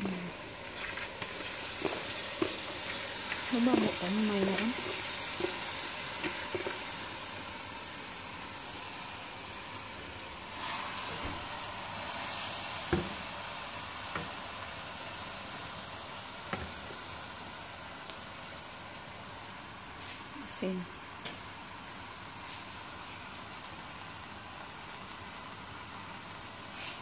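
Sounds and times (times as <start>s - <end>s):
rice sizzling in hot oil: 0.0s - 27.0s.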